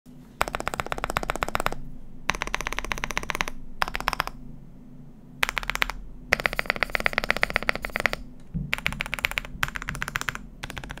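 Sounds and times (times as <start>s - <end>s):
rapid mechanical keyboard keystrokes: 0.4s - 4.4s, 5.4s - 11.0s.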